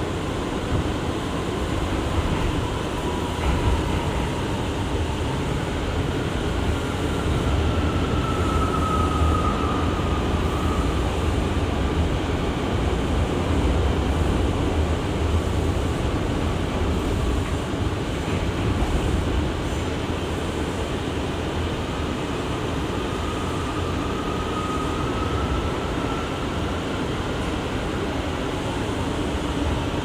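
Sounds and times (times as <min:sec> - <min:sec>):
subway car rumble and hum: 0:00.0 - 0:30.0.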